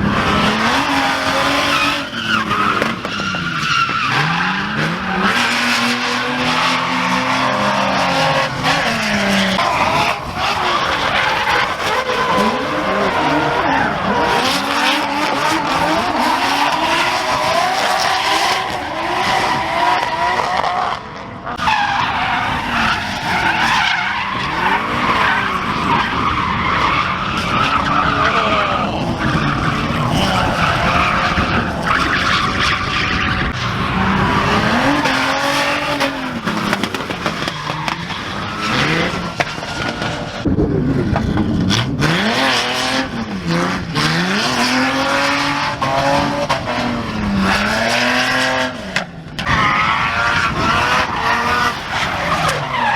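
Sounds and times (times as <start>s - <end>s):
tires squealing: 0.0s - 40.5s, 41.2s - 52.9s
car engines revving: 0.0s - 52.9s.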